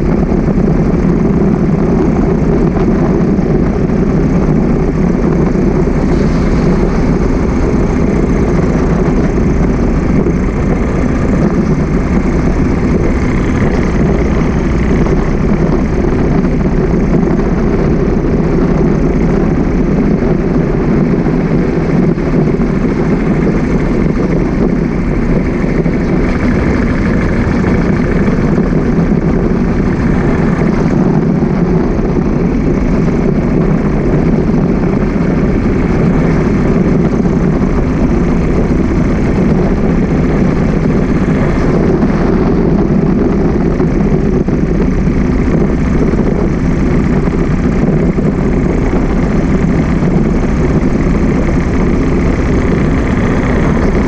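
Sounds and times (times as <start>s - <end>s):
motorbike engine and road noise: 0.0s - 54.0s
wind rush on microphone: 0.0s - 54.0s.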